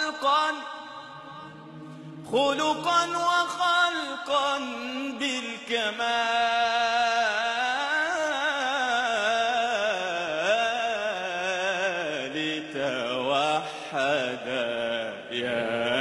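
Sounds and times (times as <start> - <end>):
man singing devotional chant: 0.0 - 1.5, 2.2 - 16.0.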